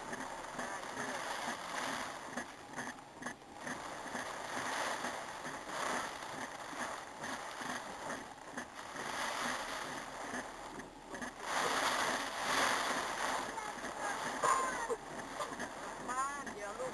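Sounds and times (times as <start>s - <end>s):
wind: 0.0s - 16.9s.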